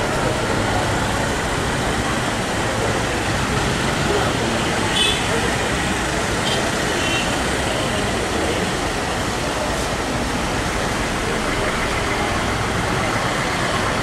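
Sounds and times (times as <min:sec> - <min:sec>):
road traffic: 0:00.0 - 0:14.0
voices of a marching crowd: 0:00.0 - 0:14.0.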